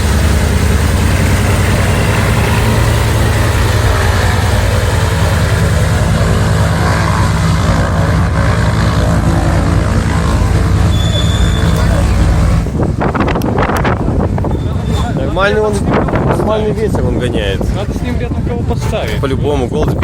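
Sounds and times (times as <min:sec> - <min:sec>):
propeller aircraft engine drone: 0:00.0 - 0:20.0.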